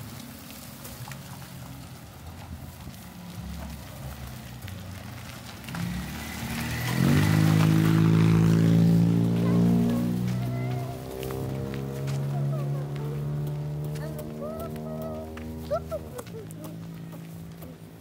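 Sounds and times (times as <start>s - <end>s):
car engine running: 1.3s - 18.0s.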